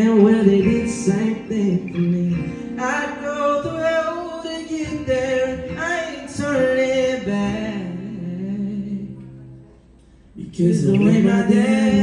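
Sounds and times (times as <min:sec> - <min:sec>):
man singing into a microphone: 0:00.0 - 0:09.5, 0:10.4 - 0:12.0
acoustic guitar: 0:00.0 - 0:12.0.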